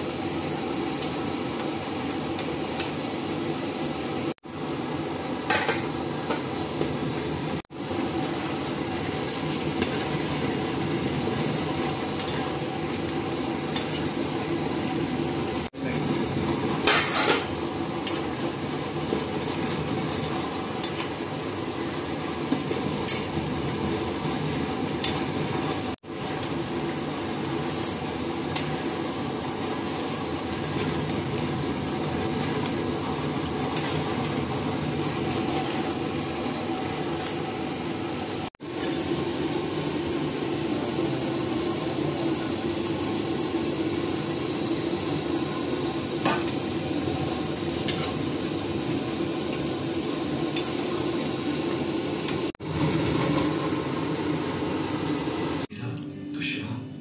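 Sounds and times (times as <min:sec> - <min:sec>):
curry sizzling in a pan: 0:00.0 - 0:55.7.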